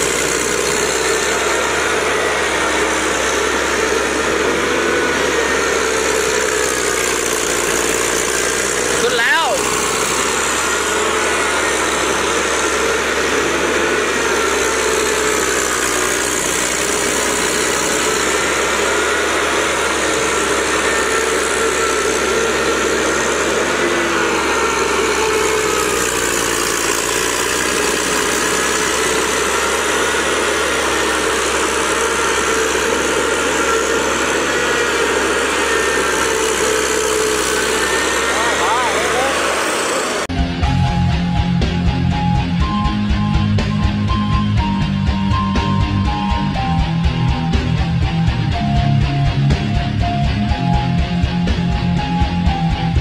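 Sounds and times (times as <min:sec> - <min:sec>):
small diesel engine running: 0:00.0 - 0:53.0.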